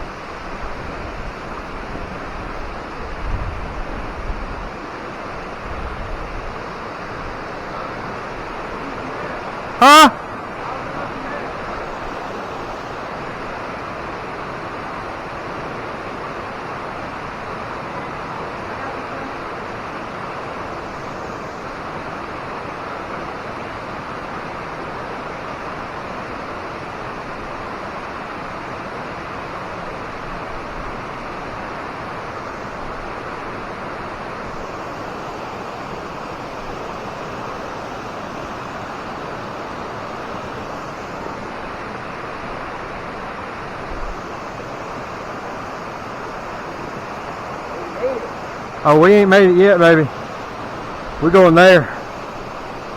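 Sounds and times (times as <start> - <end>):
creek water flowing: 0.0 - 52.9.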